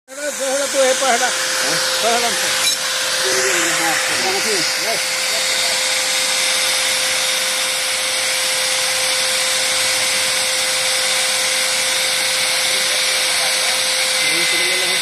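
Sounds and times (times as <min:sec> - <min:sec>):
drill bit cutting steel: 0:00.1 - 0:15.0
electric drill motor whine: 0:00.1 - 0:15.0.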